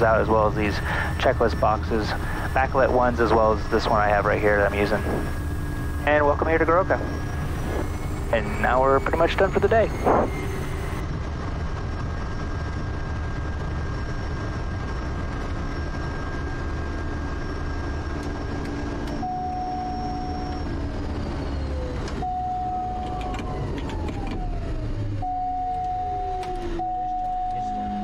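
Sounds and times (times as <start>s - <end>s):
high turbine whine: 0.0s - 28.0s
turboprop engine droning: 0.0s - 28.0s.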